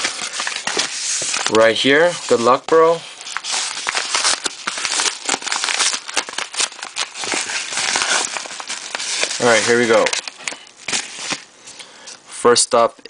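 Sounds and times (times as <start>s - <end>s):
padded mailer crinkling: 0.0s - 11.5s.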